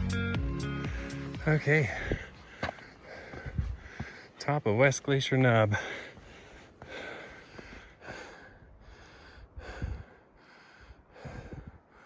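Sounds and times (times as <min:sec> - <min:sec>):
person breathing hard: 0:00.8 - 0:04.4, 0:05.7 - 0:12.0.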